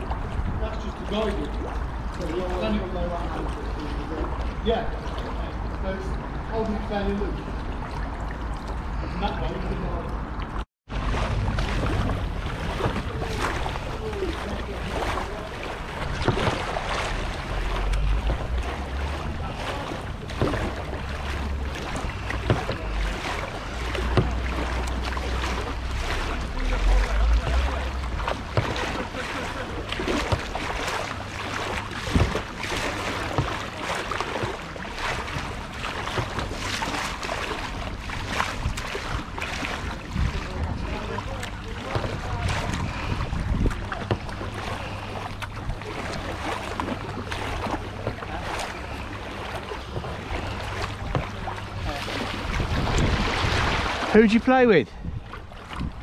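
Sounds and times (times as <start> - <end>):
wind buffeting microphone: 0.0 - 30.9, 37.8 - 46.4, 50.0 - 56.0
paddle strokes splashing water: 0.0 - 56.0.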